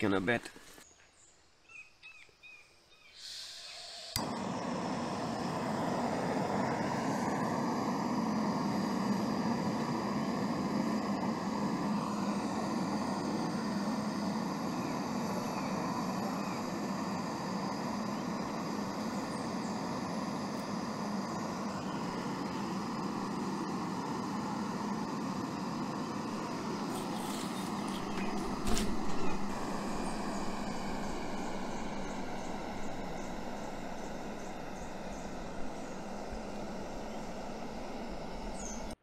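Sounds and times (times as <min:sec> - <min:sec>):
gas camp stove roaring: 0:03.3 - 0:39.0.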